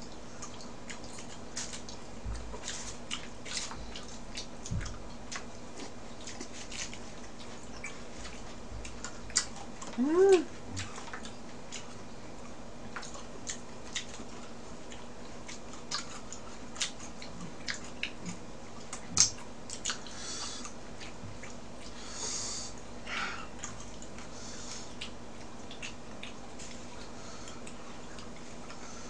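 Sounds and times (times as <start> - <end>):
steady low hum: 0.0 - 29.0
person chewing with wet mouth clicks: 0.1 - 10.0, 10.8 - 22.0, 24.9 - 28.8.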